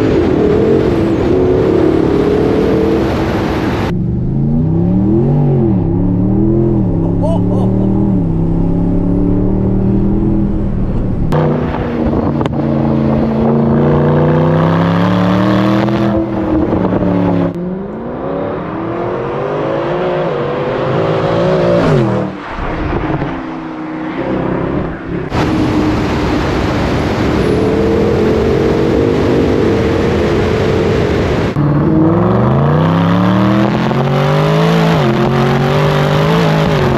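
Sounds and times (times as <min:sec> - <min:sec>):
car engine accelerating: 0:00.0 - 0:36.9.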